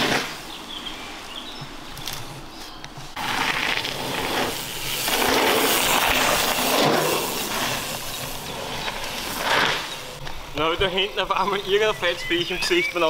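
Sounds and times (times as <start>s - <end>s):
bike tyres rolling over gravel: 0.0s - 13.0s.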